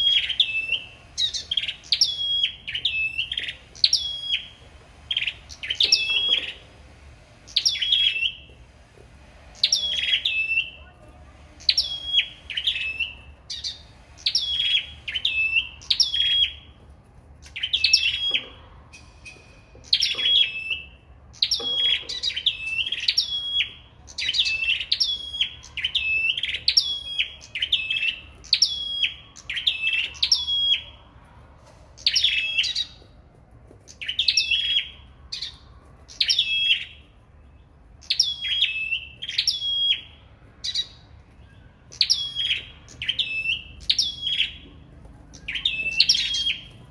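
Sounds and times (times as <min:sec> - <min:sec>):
caged songbirds chirping: 0:00.0 - 0:46.9.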